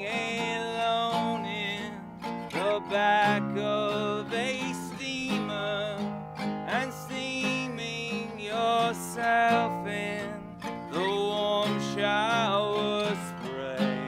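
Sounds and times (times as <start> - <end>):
man singing folk-style: 0.0 - 14.0
strummed acoustic guitar: 0.0 - 14.0.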